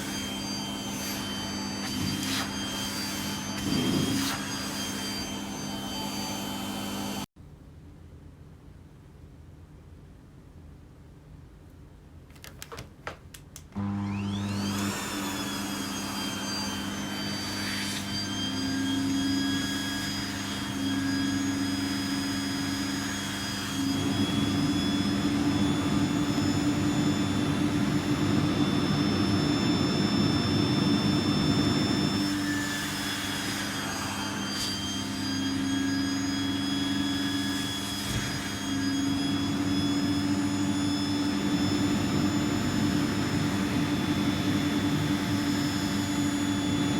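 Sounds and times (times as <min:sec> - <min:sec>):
vacuum cleaner motor whine: 0:00.0 - 0:07.3, 0:13.8 - 0:46.9.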